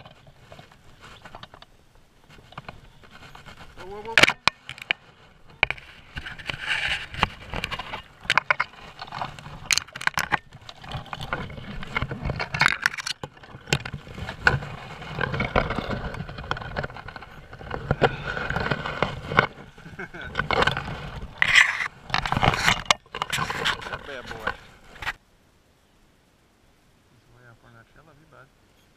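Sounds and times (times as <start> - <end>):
dry branches rustling and scraping: 0.0 - 25.2.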